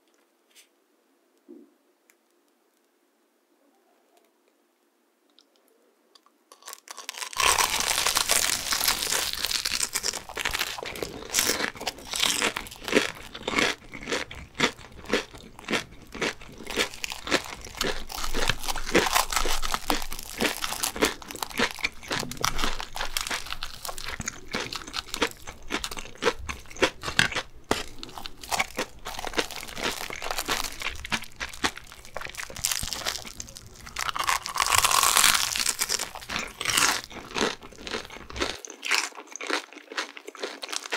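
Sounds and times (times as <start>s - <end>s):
crunching and chewing: 6.2s - 40.9s.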